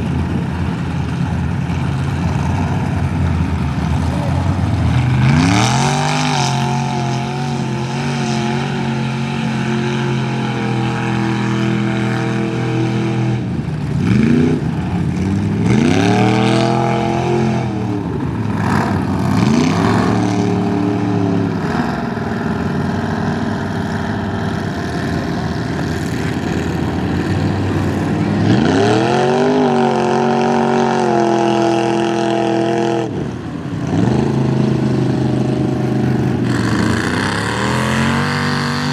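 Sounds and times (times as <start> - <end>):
truck engine revving hard: 2.0 - 38.9.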